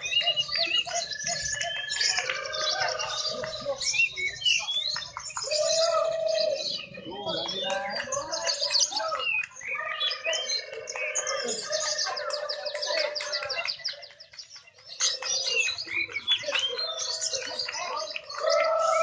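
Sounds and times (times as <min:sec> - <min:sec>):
lovebirds chirping and trilling: 0:00.0 - 0:19.0.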